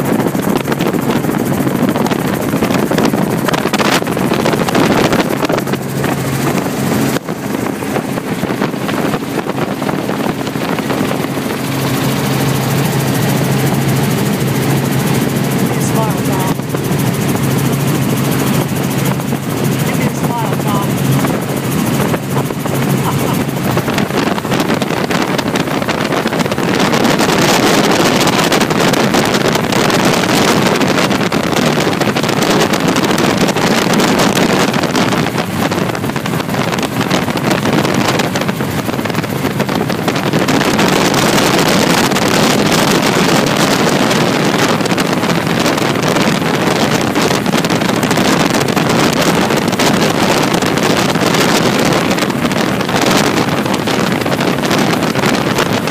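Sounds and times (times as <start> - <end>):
helicopter engine and rotor: 0.0 - 55.9
wind buffeting microphone: 0.0 - 55.9.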